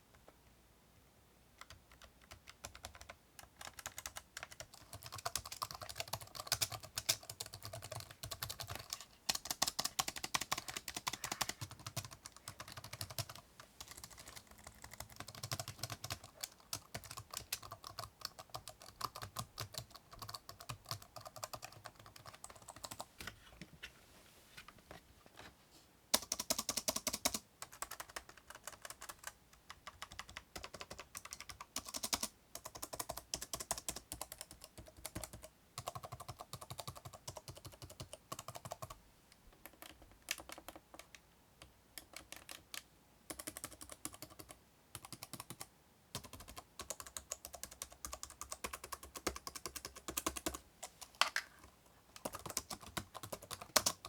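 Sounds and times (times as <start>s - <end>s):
laptop keyboard typing: 1.6s - 23.1s, 26.1s - 39.0s, 39.6s - 51.4s, 52.2s - 54.0s.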